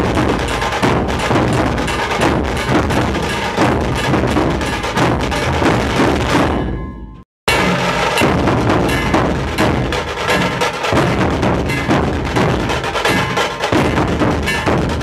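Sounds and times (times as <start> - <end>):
dhol drums beating: 0.0 - 15.0.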